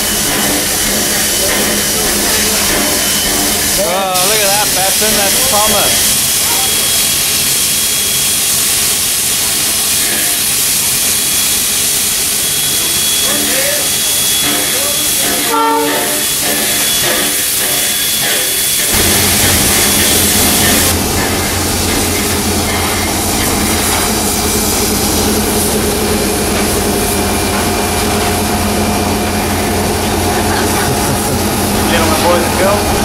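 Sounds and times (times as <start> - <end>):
diesel locomotive engine hum: 0.0 - 33.0
steam hissing from locomotive: 0.0 - 33.0.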